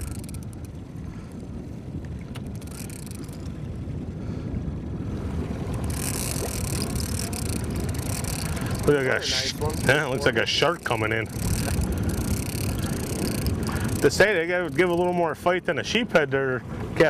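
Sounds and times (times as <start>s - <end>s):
wind on microphone: 0.0s - 15.1s
boat motor running: 0.0s - 17.0s.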